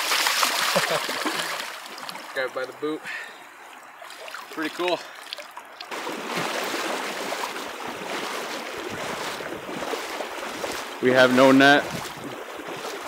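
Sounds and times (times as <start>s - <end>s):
river water rushing over gravel: 0.0s - 3.0s, 4.0s - 13.0s.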